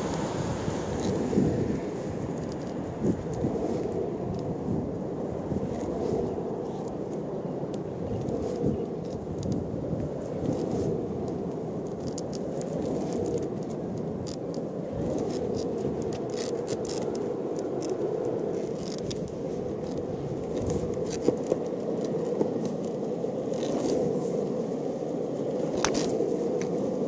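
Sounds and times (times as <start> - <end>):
longboard wheels rolling on asphalt: 0.0 - 27.0.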